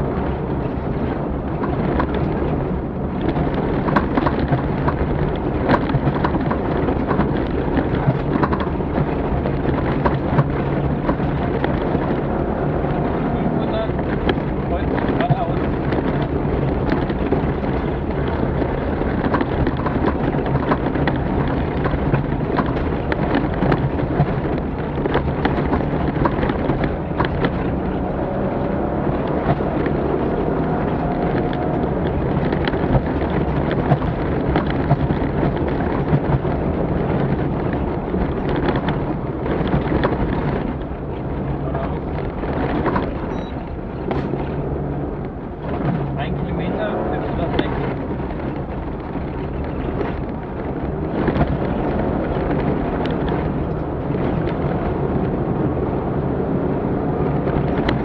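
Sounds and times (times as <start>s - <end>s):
sharp knocks and rattles: 0.0s - 55.7s
rally vehicle engine rumble: 0.0s - 58.0s.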